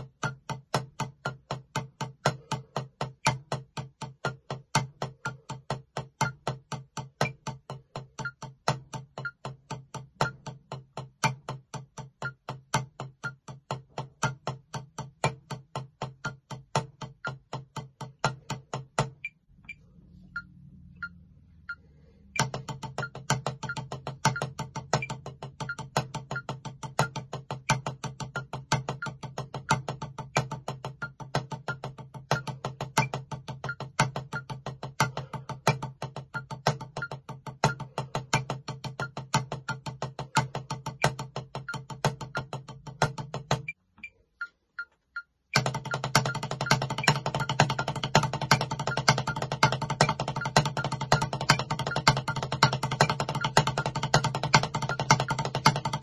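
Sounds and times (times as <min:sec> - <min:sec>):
drumsticks on practice pad: 0:00.0 - 0:56.0.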